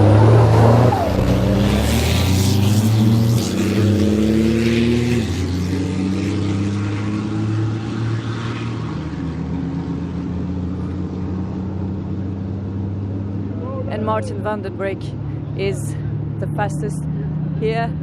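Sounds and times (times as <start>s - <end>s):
diesel truck engine revving: 0.0s - 18.0s.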